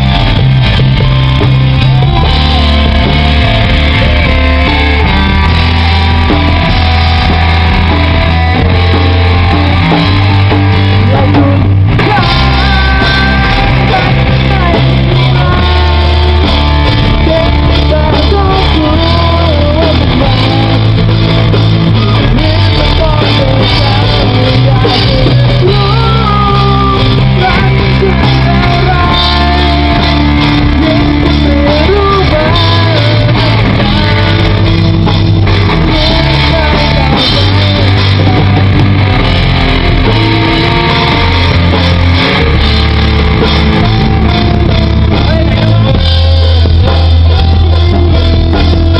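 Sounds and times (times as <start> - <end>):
person singing: 0.0 - 48.9
rock band playing: 0.0 - 48.9.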